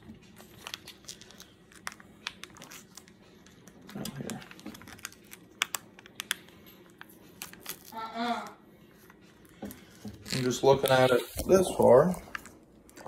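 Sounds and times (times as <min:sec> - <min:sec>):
plastic packet crinkling: 0:00.3 - 0:08.0, 0:09.4 - 0:13.0.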